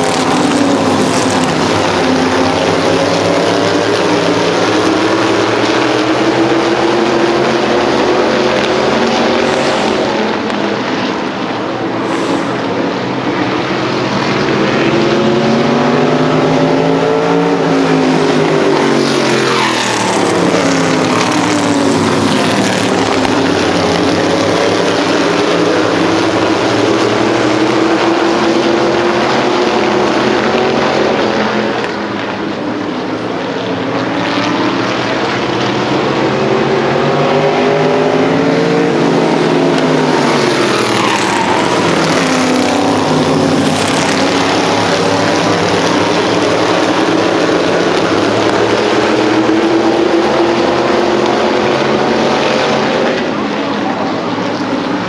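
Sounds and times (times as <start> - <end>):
race car engines passing: 0.0 - 55.0.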